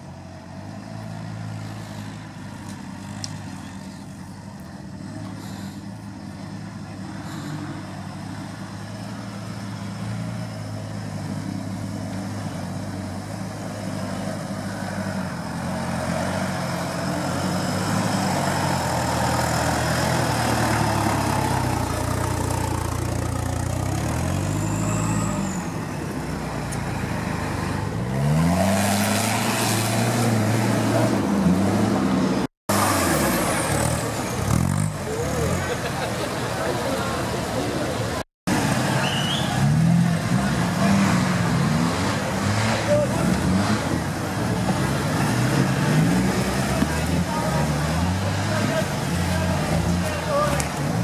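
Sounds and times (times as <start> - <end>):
off-road vehicle engine labouring: 0.0 - 51.0.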